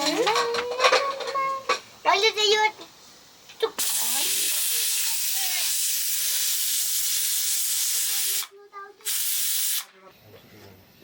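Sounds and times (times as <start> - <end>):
loud steady hissing: 0.0 - 10.3.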